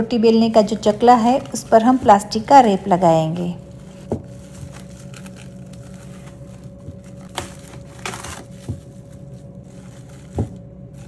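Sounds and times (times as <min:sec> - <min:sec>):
faint steady hum: 0:00.0 - 0:11.0
cling wrap crinkling: 0:00.1 - 0:11.0.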